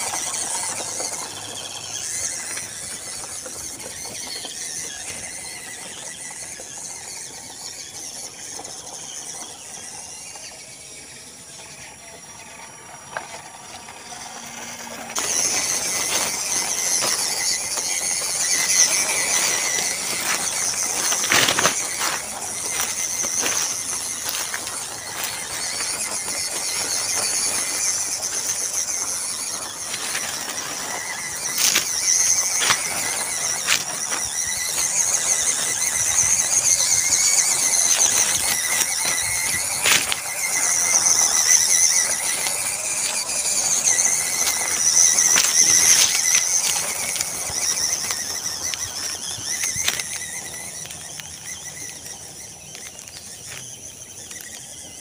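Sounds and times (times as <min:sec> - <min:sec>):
dry leaves crackling under tyres: 0:00.0 - 0:55.0
electric motor whining: 0:00.0 - 0:55.0.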